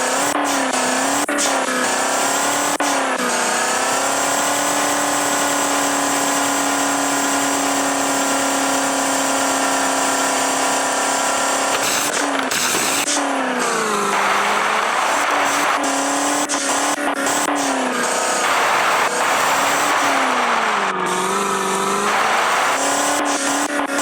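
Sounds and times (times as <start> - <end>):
van engine revving: 0.0 - 24.0.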